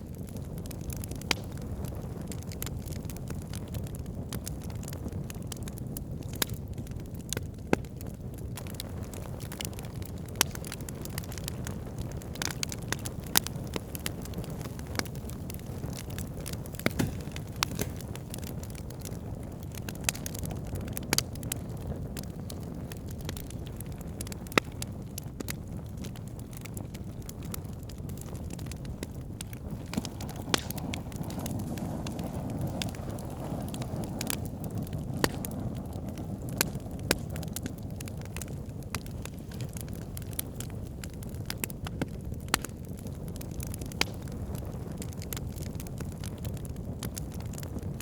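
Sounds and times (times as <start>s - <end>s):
campfire crackling and popping: 0.0s - 48.0s
low rush of fire: 0.0s - 48.0s.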